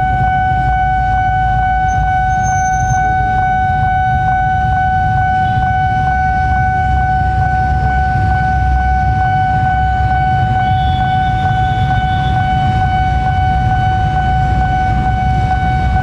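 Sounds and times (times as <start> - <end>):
diesel locomotive rumble: 0.0 - 16.0
level crossing warning tone: 0.0 - 16.0.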